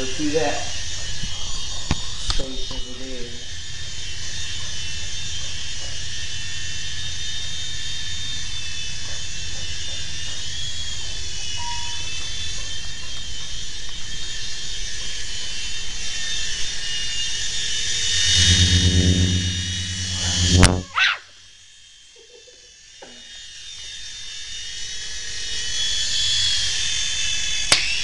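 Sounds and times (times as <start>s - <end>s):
toy helicopter rotor whine: 0.0s - 21.2s, 22.3s - 27.6s.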